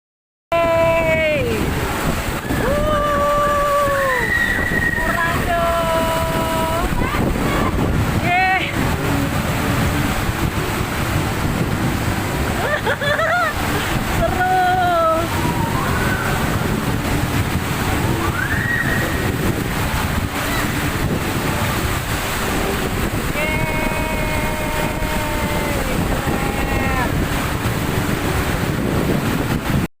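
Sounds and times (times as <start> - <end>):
wind buffeting microphone: 0.5 - 29.9
splashing water: 0.6 - 29.9.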